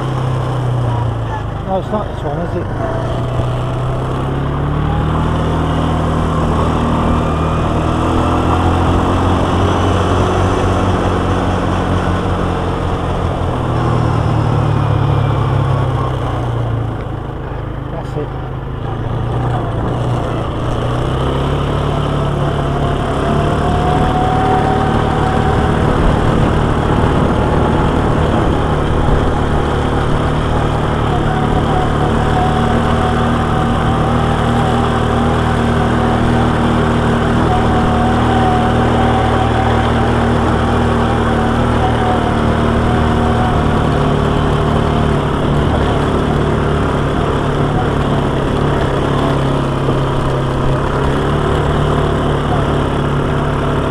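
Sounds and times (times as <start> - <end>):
quad bike engine running: 0.0 - 53.9
wavering whine: 0.0 - 53.9.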